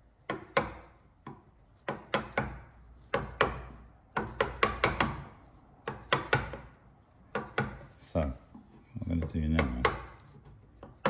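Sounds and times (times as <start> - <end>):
sharp knocks on wood: 0.2 - 7.9, 9.1 - 11.0.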